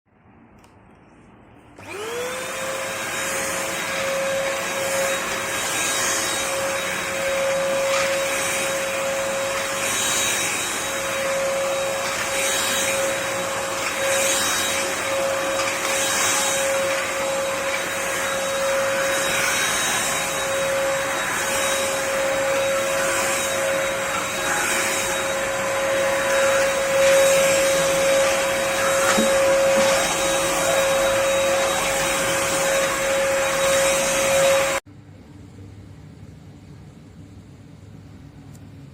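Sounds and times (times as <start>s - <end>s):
vacuum cleaner motor whine: 1.8s - 34.8s.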